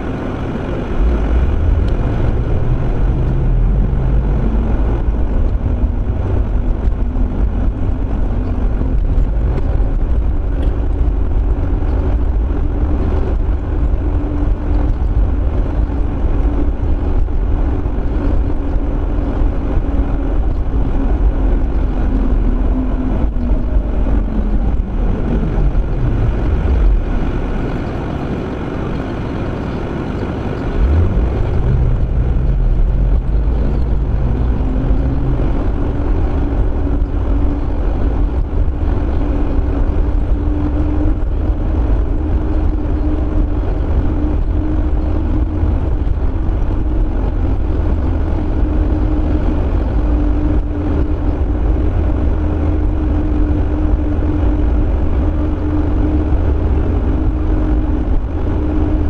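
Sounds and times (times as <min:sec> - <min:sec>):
car tyre and engine drone: 0:00.0 - 0:59.0.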